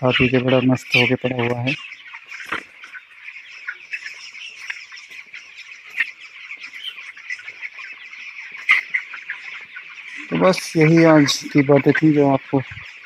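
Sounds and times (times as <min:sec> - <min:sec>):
chicks cheeping: 0:00.0 - 0:13.0.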